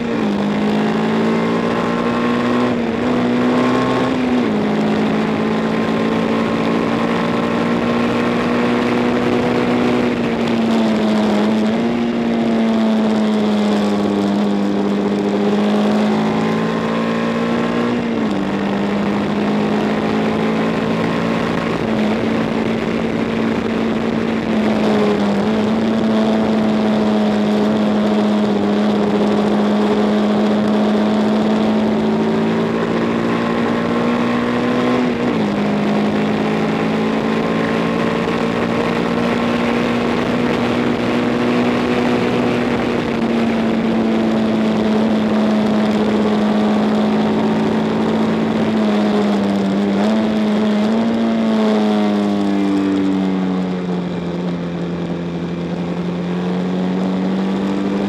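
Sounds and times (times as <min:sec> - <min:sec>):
racing motorcycle engine: 0:00.0 - 0:58.0
wind noise: 0:00.0 - 0:58.0.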